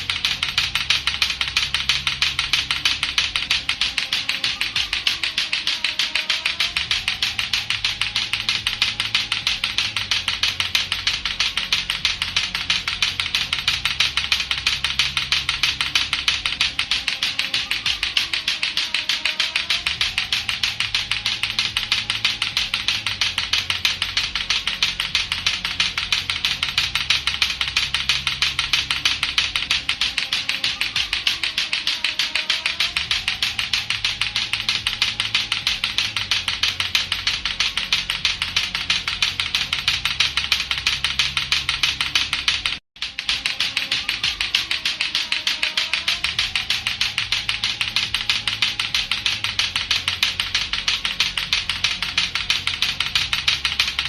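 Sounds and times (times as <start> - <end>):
clacker toy balls clacking: 0.0 - 54.0
faint low musical loop: 0.0 - 54.0.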